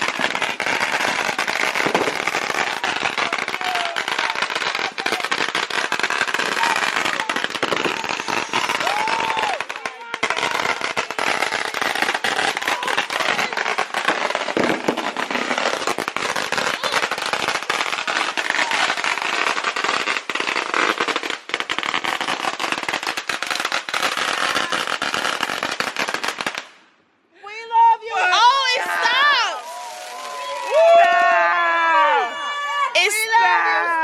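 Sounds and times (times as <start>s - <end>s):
fireworks crackling: 0.0s - 26.9s, 28.2s - 34.0s.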